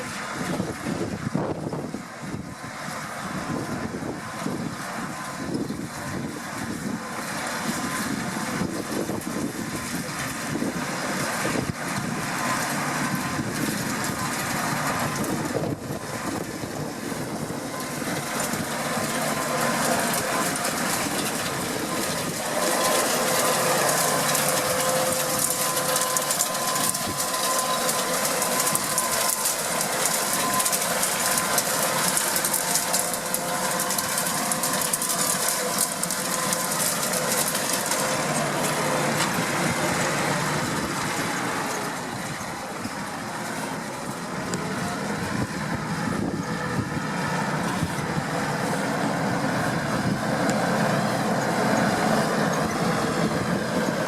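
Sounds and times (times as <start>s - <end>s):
tractor engine under load: 0.0s - 54.0s
rotary rake clatter: 2.9s - 54.0s.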